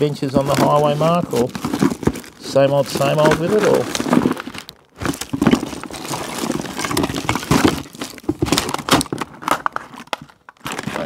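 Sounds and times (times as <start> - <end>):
plastic packaging crinkling: 0.0 - 11.0
small items clicking: 0.0 - 11.0.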